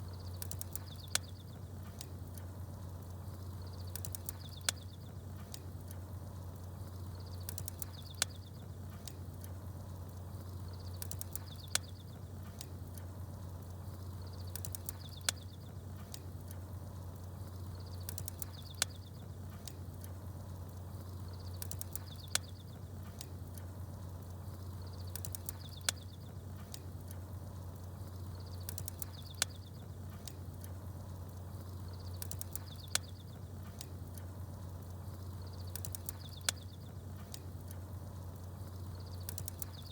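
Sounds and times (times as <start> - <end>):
small birds twittering: 0.0 - 2.1, 2.8 - 5.6, 6.6 - 9.2, 10.0 - 12.7, 13.6 - 16.2, 17.4 - 23.3, 24.2 - 26.8, 27.8 - 39.9
campfire crackling: 0.0 - 39.9
low steady hum: 0.0 - 39.9.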